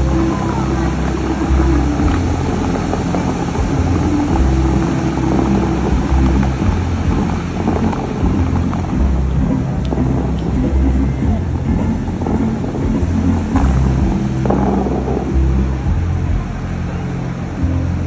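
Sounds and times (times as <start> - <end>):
fountain water jets splashing: 0.0 - 18.0
music from loudspeakers: 0.0 - 18.0.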